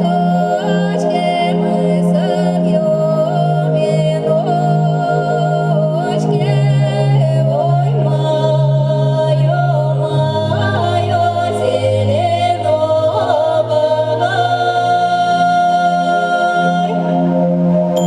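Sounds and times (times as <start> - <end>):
high voice singing: 0.0 - 18.0.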